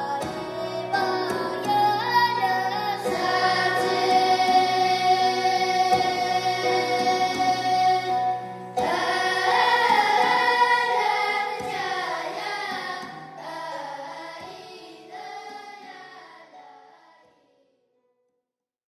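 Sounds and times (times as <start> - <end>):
music with voices singing: 0.0 - 17.1.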